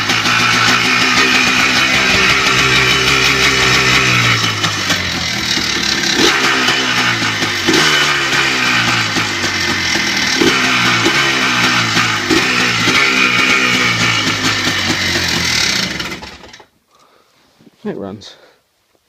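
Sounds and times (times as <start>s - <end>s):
two-stroke engine running: 0.0s - 16.7s.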